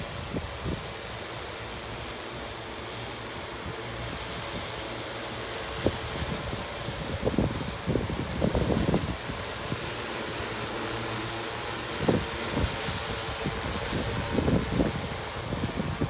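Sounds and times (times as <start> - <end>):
drone rotors whirring: 0.0 - 16.0.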